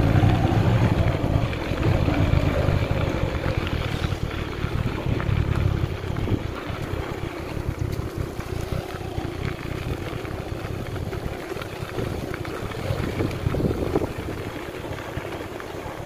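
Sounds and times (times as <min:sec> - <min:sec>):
vehicle rumbling on dirt track: 0:00.0 - 0:16.0
wind buffeting microphone: 0:00.0 - 0:16.0.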